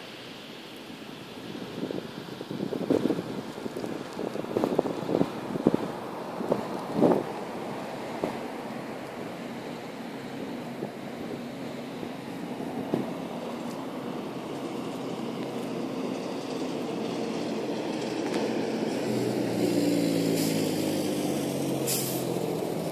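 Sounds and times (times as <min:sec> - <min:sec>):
lorry engine hum: 0:00.0 - 0:22.9
road traffic noise: 0:00.0 - 0:22.9.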